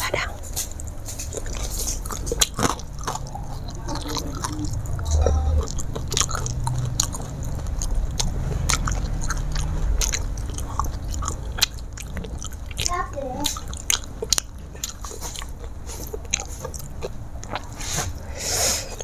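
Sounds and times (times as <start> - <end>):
person chewing crunchy food: 0.2 - 19.0.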